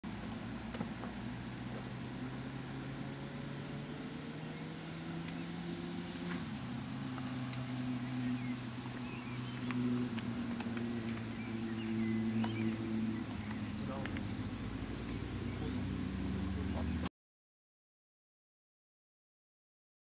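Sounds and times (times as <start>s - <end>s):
birds chirping: 0.0s - 17.1s
rc car engine idling: 0.1s - 17.1s.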